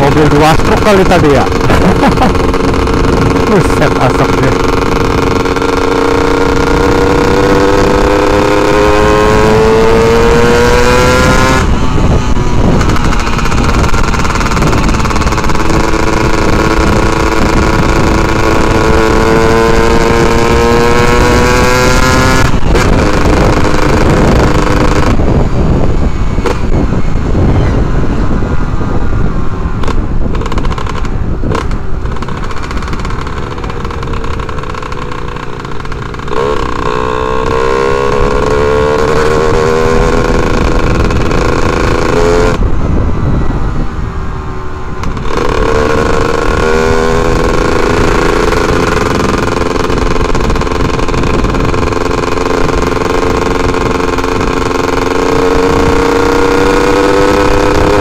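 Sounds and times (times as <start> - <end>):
motorcycle engine accelerating: 0.0 - 58.0
wind rushing over microphone: 0.0 - 58.0.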